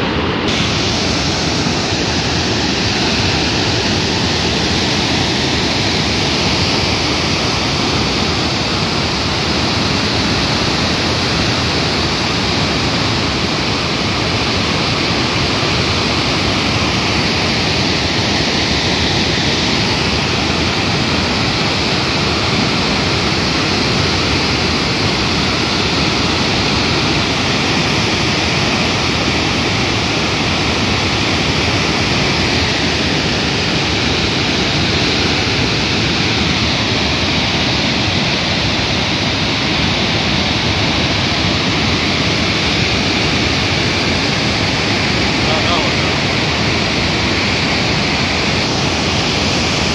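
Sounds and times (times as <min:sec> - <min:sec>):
water rushing and falling: 0:00.0 - 0:49.9.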